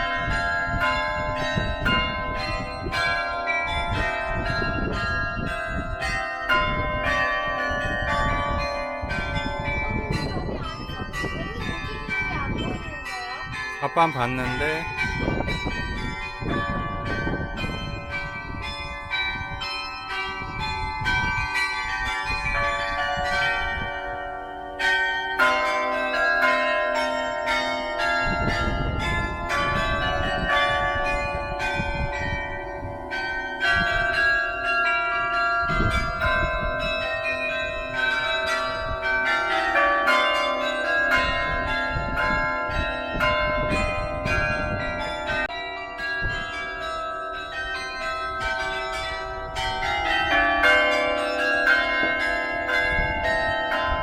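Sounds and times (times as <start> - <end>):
carillon bells playing a tune: 0.0 - 54.0.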